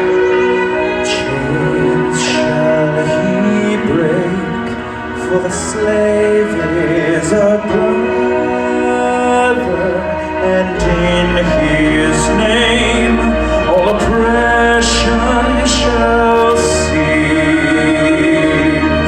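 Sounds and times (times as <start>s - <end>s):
music with singing voices: 0.0s - 19.0s.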